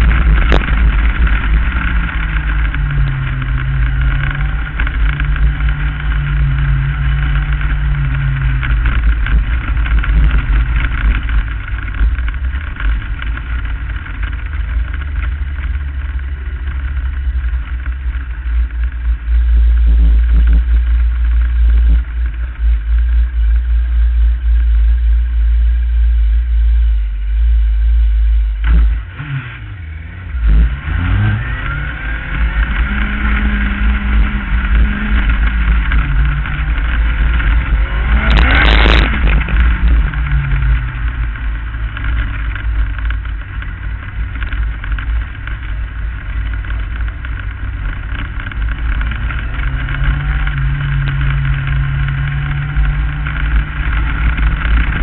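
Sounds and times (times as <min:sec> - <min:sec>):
loud rush of noise: 0:00.0 - 0:55.0
racing car engine running hard: 0:00.0 - 0:55.0.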